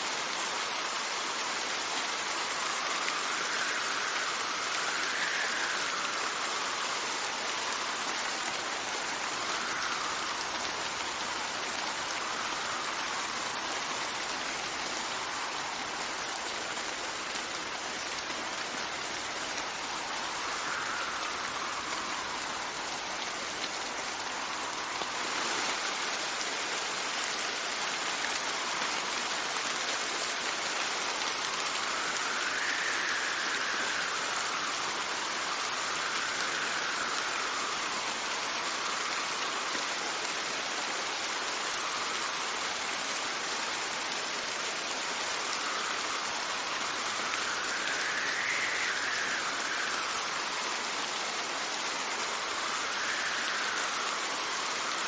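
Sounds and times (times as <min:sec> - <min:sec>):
steady rain: 0:00.0 - 0:55.0
wind gusts: 0:00.0 - 0:55.0.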